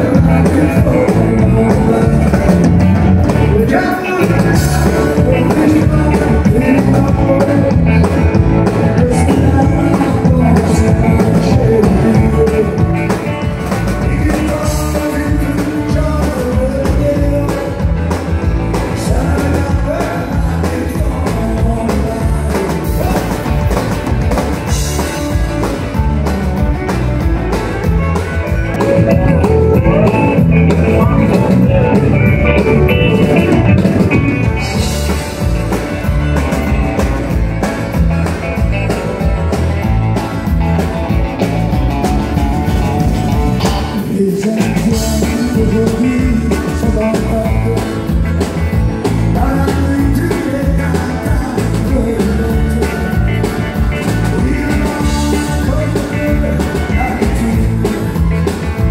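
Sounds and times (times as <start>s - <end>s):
live country band playing: 0.0s - 58.9s
steady drum beat: 0.0s - 58.9s.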